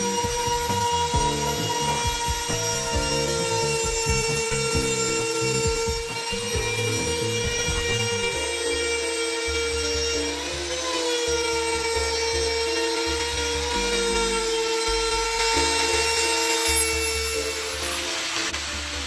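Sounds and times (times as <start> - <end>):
background music: 0.0 - 19.0
router cutting plywood: 0.0 - 19.0.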